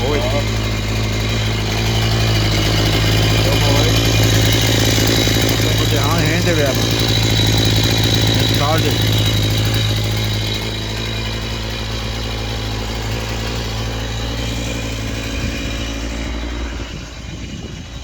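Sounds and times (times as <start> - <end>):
chainsaw engine idling: 0.0 - 18.0.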